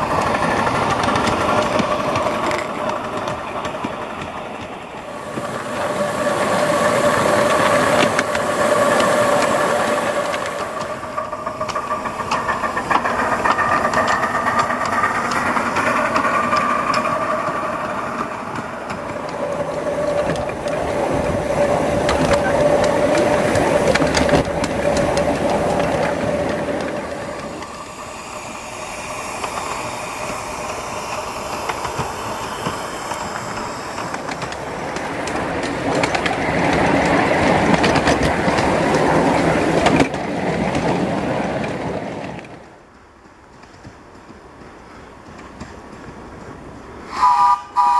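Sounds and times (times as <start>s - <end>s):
train wheels clicking on rails: 0.0s - 47.9s.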